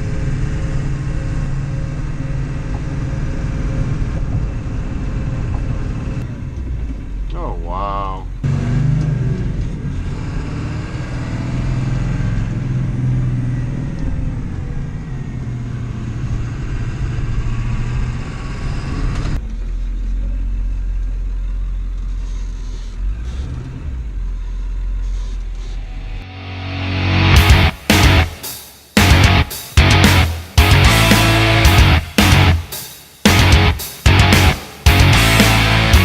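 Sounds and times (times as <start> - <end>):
diesel engine running: 0.0 - 28.3, 29.0 - 36.0.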